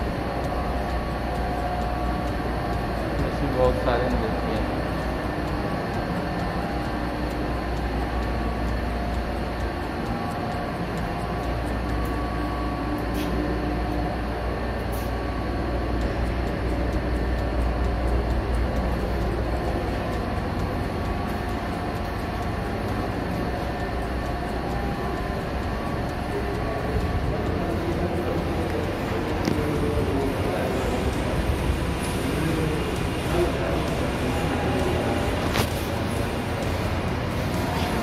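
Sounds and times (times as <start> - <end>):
faint steady hums: 0.0 - 38.0.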